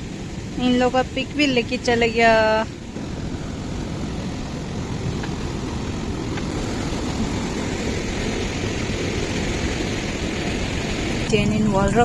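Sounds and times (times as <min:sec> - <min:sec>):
river rushing: 0:00.0 - 0:11.6.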